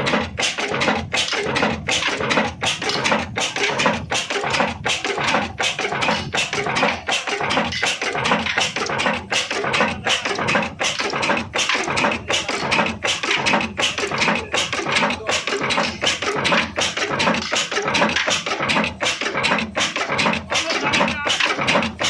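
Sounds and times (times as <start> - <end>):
diesel engine chugging: 0.0 - 22.0.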